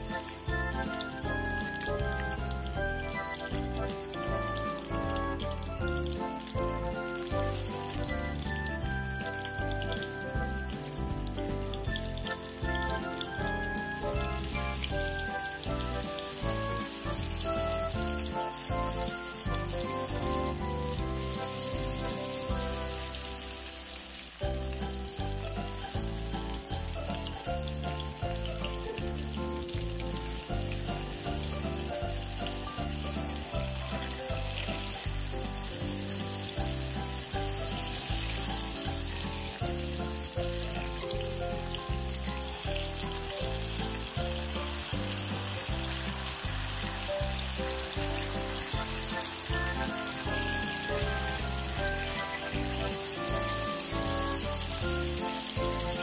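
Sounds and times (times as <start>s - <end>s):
background music with steady beat: 0.0s - 56.0s
oil sizzling: 0.0s - 56.0s.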